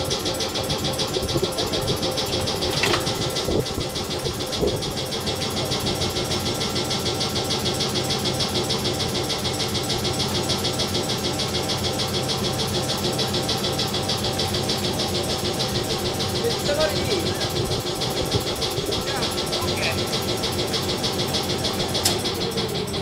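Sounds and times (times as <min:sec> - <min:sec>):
locomotive machinery beating: 0:00.0 - 0:23.0.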